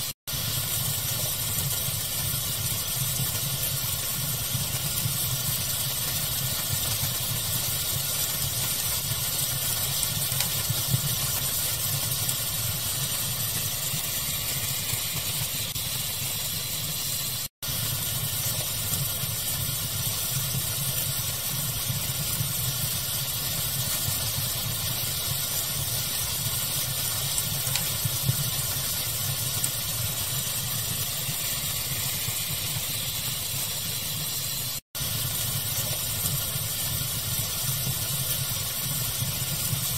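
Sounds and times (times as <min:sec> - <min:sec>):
fire crackling: 0:00.0 - 0:39.9
steady pink noise hiss: 0:00.0 - 0:39.9.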